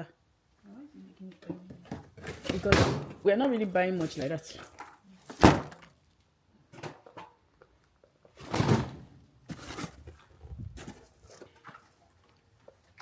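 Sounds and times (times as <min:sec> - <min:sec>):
knocking and rustling of handling: 0:01.3 - 0:06.0, 0:06.7 - 0:13.0.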